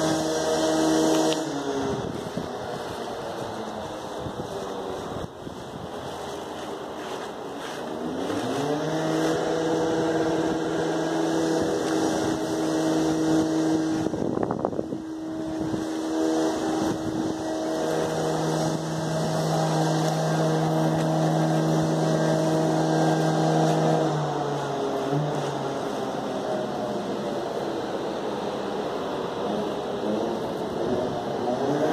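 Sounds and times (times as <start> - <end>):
motor droning: 0.0 - 31.9.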